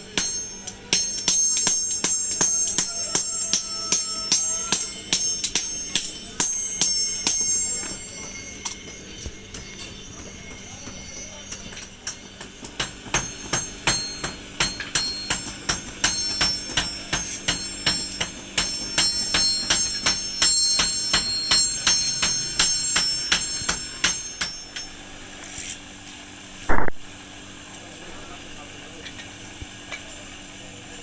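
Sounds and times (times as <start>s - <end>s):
hammers striking steel on anvil: 0.0s - 25.0s.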